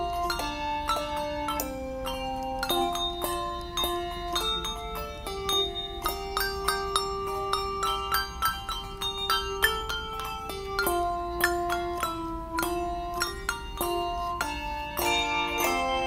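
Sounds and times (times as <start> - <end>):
handbell choir playing: 0.0 - 16.0.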